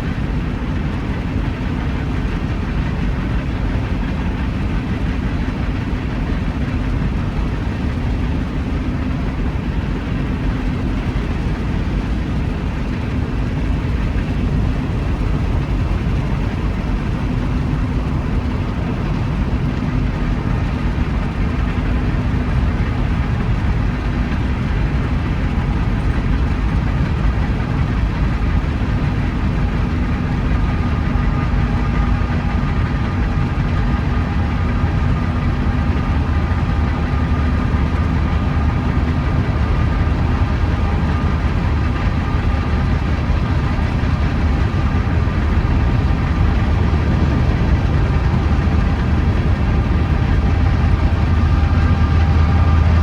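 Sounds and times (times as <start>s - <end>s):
train rolling past rumbling: 0.0s - 53.0s.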